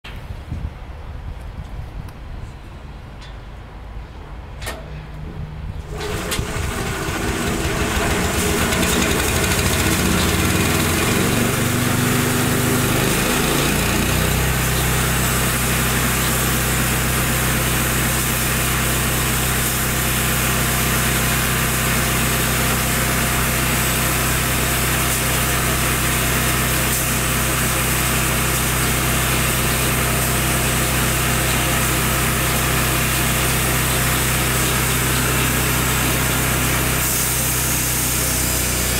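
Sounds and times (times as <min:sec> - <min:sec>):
petrol engine running: 0:05.8 - 0:38.9
band saw cutting log: 0:05.9 - 0:38.9.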